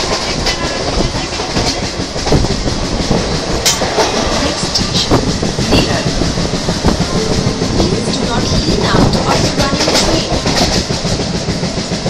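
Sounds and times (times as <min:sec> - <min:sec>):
repeated thudding from train bogie: 0:00.0 - 0:12.0
train wheels running on rails: 0:00.0 - 0:12.0.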